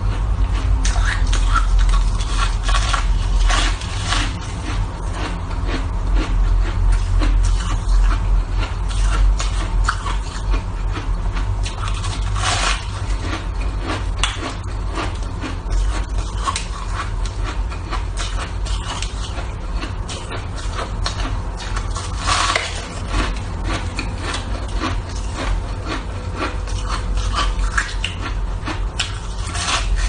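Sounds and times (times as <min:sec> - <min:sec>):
crunching and chewing ice: 0:00.0 - 0:30.0
steady low hum: 0:00.0 - 0:30.0.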